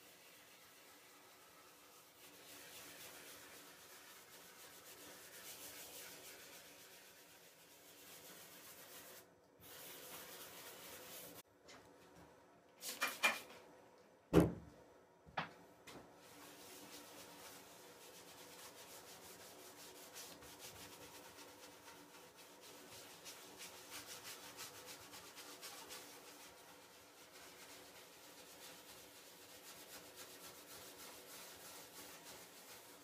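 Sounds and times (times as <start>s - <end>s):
brush scrubbing wooden block: 0.0s - 11.4s, 16.2s - 33.0s.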